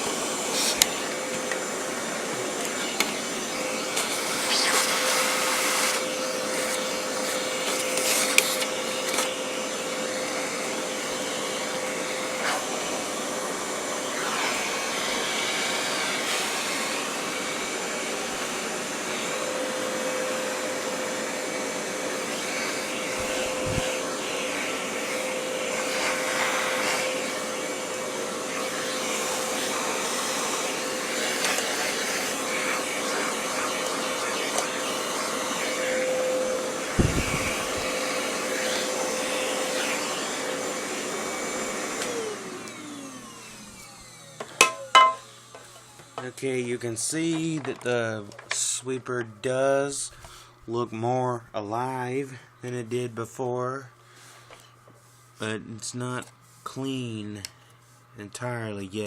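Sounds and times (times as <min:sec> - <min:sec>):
handheld vacuum whining: 0:00.0 - 0:48.7.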